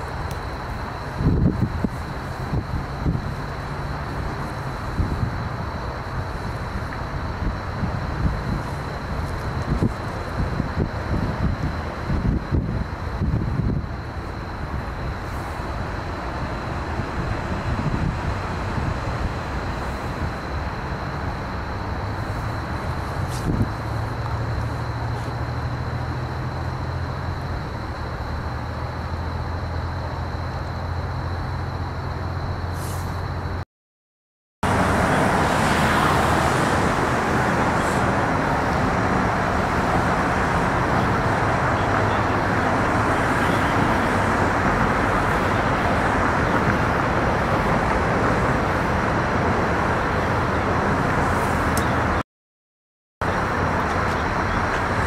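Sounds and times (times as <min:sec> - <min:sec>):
road traffic drone: 0:00.0 - 0:33.6, 0:34.6 - 0:52.2, 0:53.2 - 0:55.0.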